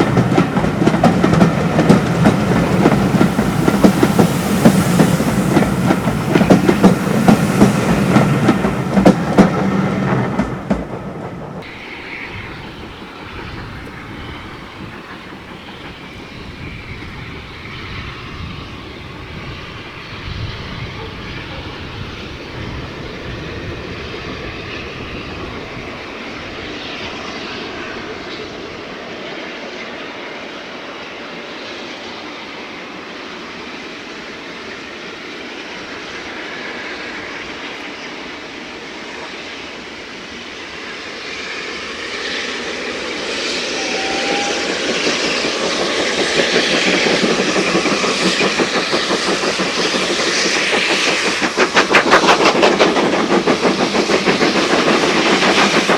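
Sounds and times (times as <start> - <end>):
steam locomotive exhaust beats: 0.0 - 55.9.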